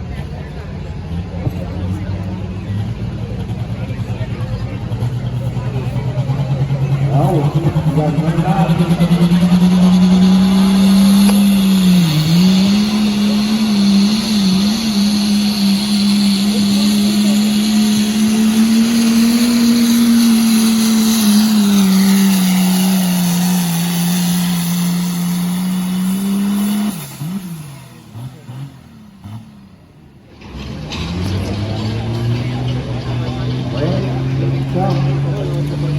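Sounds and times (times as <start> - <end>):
diesel engine at high revs: 0.0 - 35.9.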